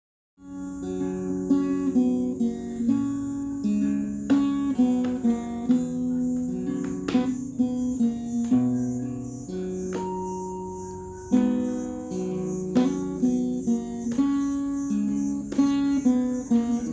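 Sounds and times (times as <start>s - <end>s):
acoustic guitar playing: 0.4s - 16.9s.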